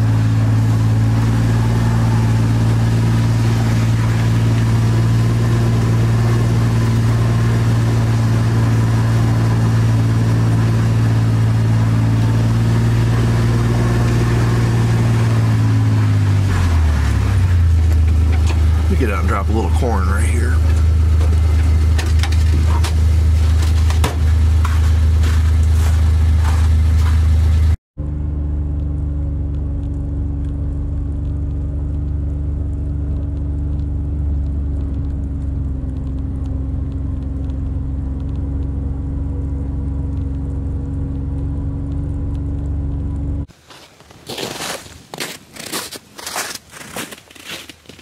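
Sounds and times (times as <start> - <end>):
vehicle engine droning: 0.0 - 47.2.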